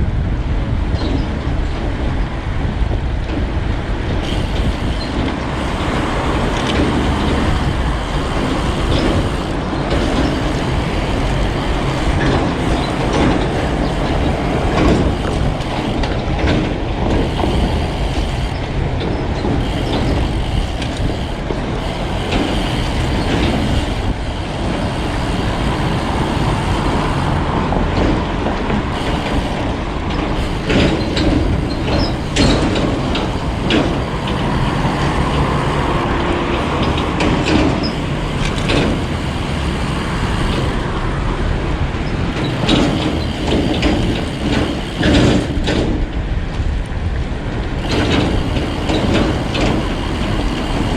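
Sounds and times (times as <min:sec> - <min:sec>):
bike rattles and clicks: 0:00.0 - 0:50.9
wind buffeting: 0:00.0 - 0:50.9
bike tyres rolling: 0:00.5 - 0:50.9.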